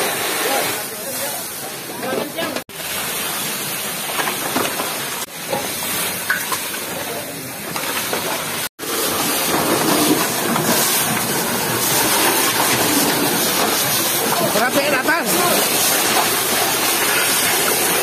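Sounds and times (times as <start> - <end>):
fire hose spraying water: 0.0 - 18.0.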